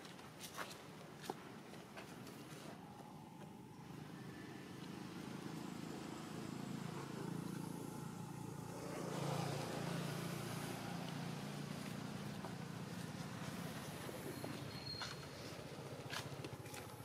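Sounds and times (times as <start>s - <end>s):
vehicle engine hum: 2.8s - 17.0s.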